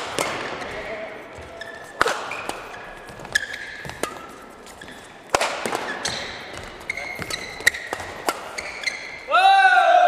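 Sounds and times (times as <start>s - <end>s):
rackets hitting shuttlecock: 0.0s - 9.3s
shoes squeaking on court floor: 0.0s - 9.3s.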